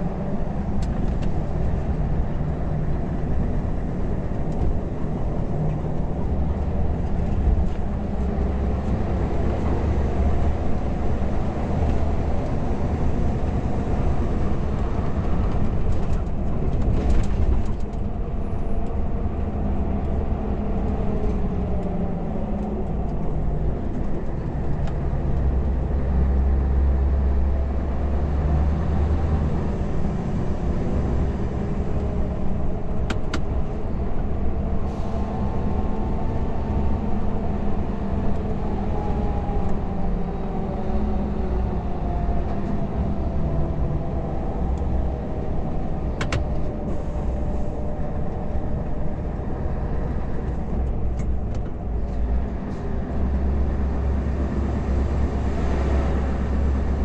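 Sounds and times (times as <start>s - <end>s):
diesel truck engine: 0.0s - 57.0s.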